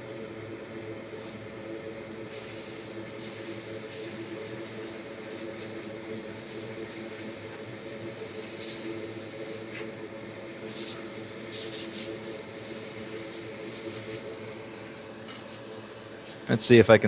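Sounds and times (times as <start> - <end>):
blowing air hiss: 2.3 - 17.0.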